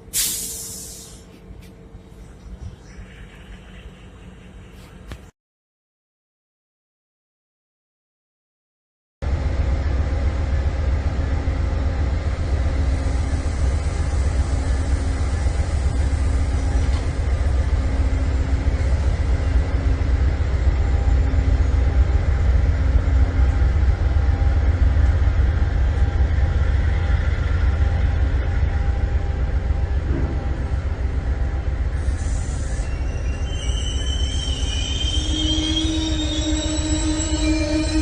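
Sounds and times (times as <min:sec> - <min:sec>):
train rumbling: 0:00.0 - 0:05.3, 0:09.2 - 0:38.0.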